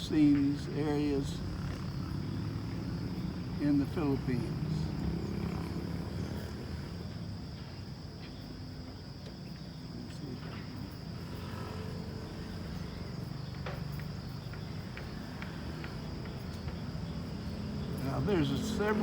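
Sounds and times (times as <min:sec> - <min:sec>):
insect chorus buzzing: 0:00.0 - 0:19.0.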